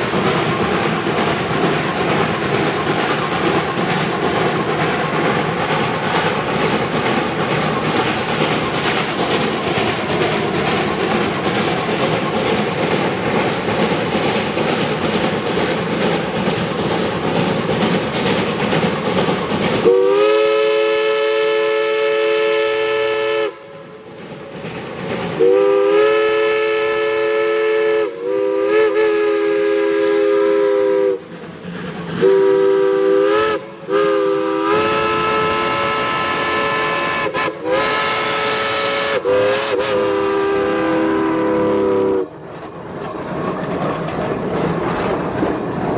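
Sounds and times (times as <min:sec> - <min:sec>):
steam locomotive running: 0:00.0 - 0:45.9.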